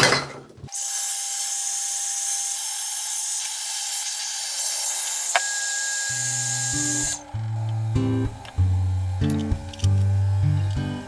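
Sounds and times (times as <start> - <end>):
heat gun blowing: 0.7 - 11.0.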